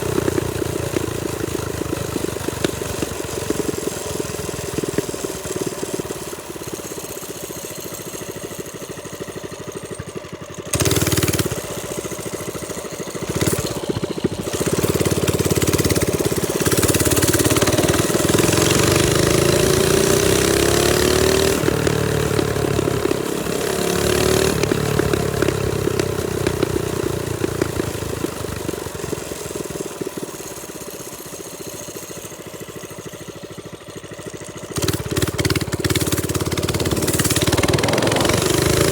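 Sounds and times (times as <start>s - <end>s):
minibike engine revving: 0.0s - 38.9s.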